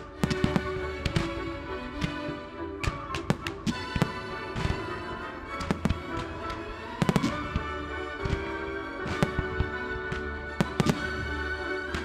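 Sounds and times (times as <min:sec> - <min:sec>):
fireworks banging: 0:00.0 - 0:12.0
music soundtrack: 0:00.0 - 0:12.0.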